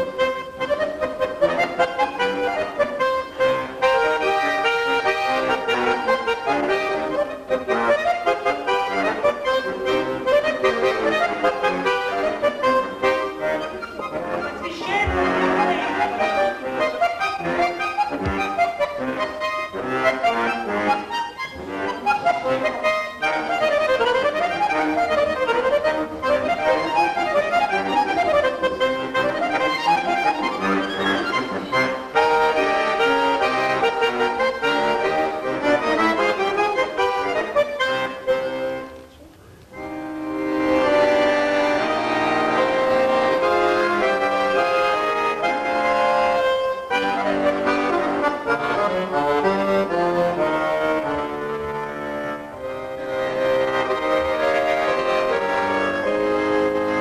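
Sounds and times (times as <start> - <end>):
button accordion playing: 0.0 - 39.0, 39.6 - 57.0.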